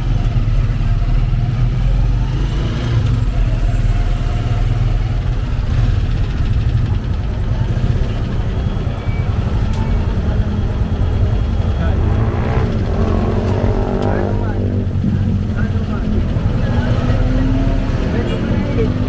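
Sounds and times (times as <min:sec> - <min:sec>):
motorcycle engine deep drone: 0:00.0 - 0:19.0.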